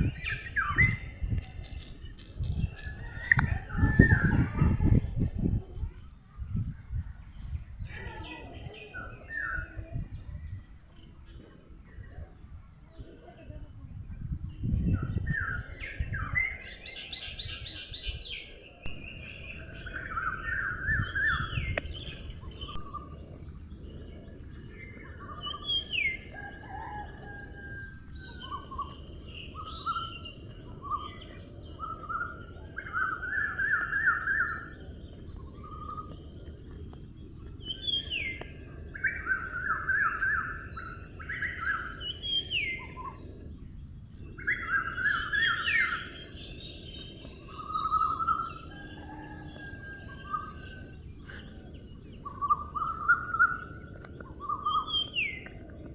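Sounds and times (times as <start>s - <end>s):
songbirds chirping: 0.0s - 6.2s, 14.4s - 55.9s.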